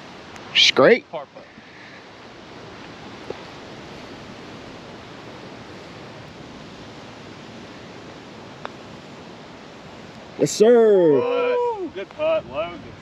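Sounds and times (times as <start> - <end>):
gusting wind on microphone: 0.0 - 13.0.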